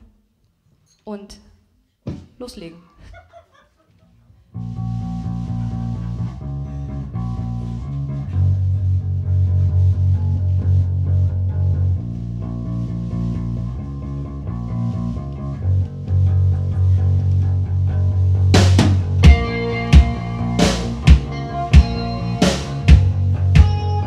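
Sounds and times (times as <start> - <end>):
electric bass guitar riff: 4.6 - 24.0.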